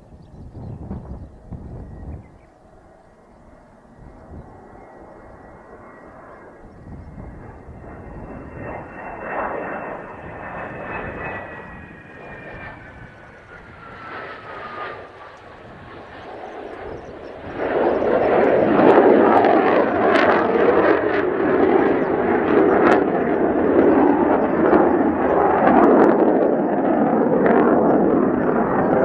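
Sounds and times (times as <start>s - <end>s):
jet engine roar with crackles: 0.0s - 29.0s.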